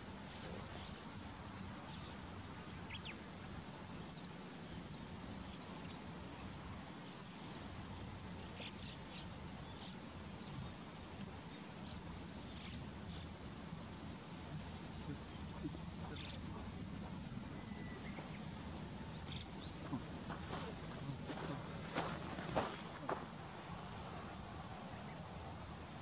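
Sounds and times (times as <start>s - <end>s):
birds chirping: 0.0s - 26.0s
low background hum: 0.0s - 26.0s.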